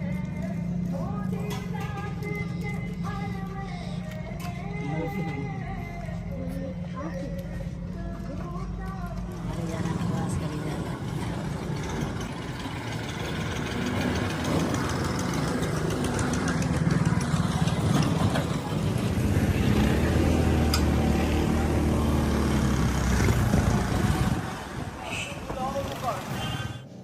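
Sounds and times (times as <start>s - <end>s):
vehicle engine running: 0.0s - 26.7s.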